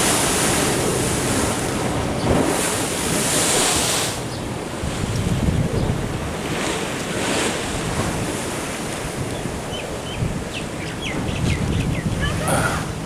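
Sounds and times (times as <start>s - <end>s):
ocean waves washing in: 0.0s - 9.8s, 12.2s - 13.0s
wind buffeting microphone: 0.0s - 13.0s.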